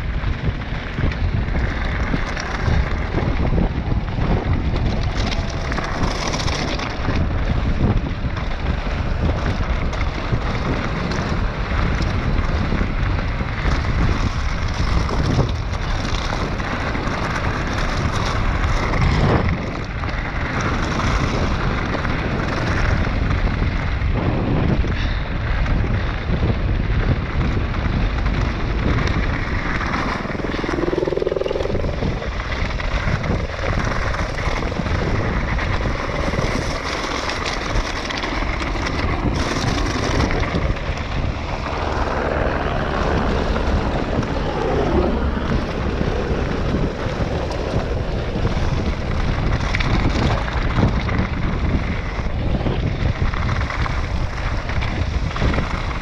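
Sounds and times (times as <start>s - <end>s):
bike tyres crunching over gravel: 0.0s - 56.0s
wind buffeting microphone: 0.0s - 56.0s.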